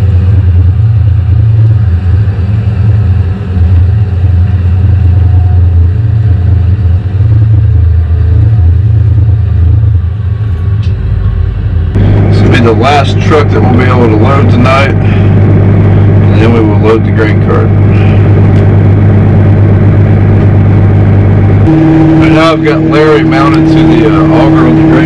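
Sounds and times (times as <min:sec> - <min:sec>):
tractor engine drone: 0:00.0 - 0:25.0.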